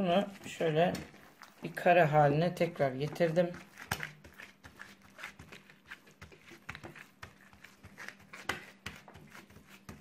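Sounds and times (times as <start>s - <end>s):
hands patting dough: 0.0s - 10.0s.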